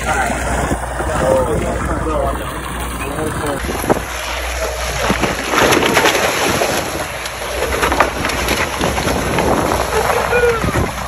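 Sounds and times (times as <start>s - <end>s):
sea water rushing and splashing: 0.0s - 11.0s
wind buffeting microphone: 0.0s - 11.0s.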